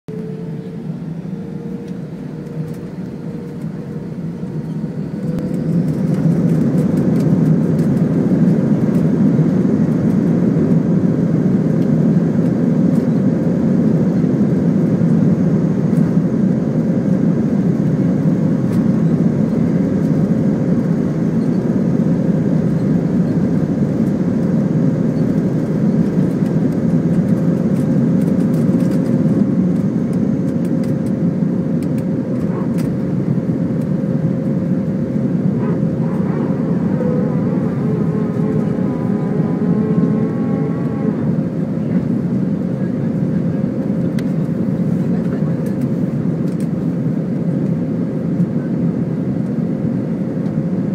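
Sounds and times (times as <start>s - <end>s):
faint high engine whine: 0.1s - 50.9s
jet engines roaring on takeoff: 0.1s - 50.9s.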